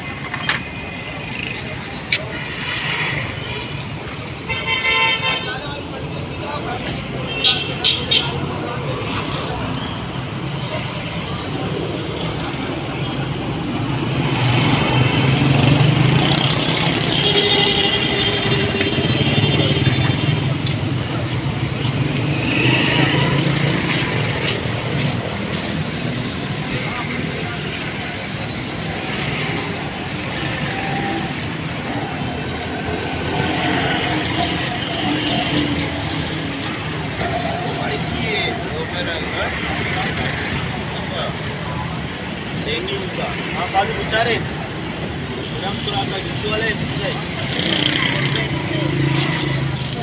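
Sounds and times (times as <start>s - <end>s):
street traffic: 0.0s - 50.0s.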